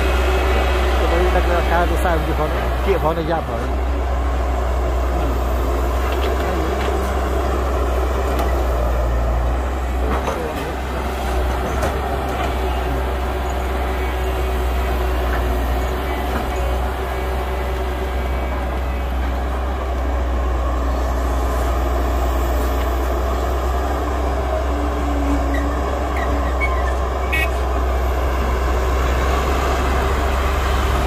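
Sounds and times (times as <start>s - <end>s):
diesel engines droning: 0.0s - 31.0s
faint engine whine: 0.0s - 31.0s.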